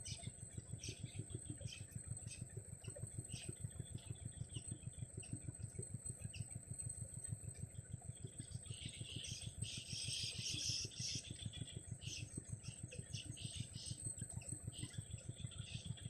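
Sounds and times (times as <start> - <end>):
constant high whine: 0.0 - 16.0
low engine-like pulsing: 0.0 - 16.0.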